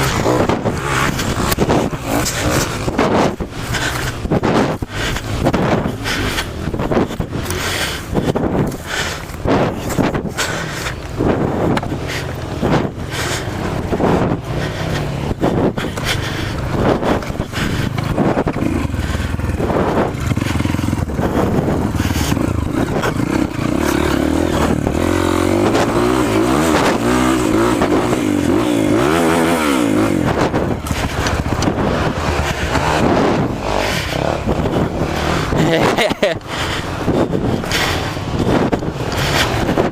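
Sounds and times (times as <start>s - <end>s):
knocks and rattles: 0.0s - 39.9s
motorcycle engine revving: 0.0s - 39.9s.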